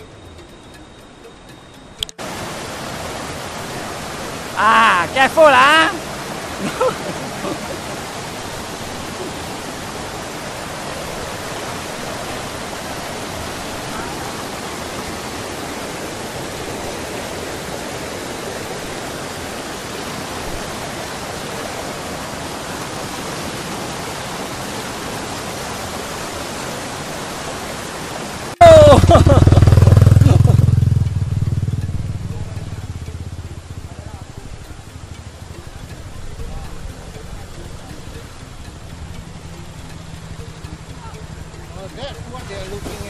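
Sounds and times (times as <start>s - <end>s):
river water rushing over rocks: 2.1s - 43.0s.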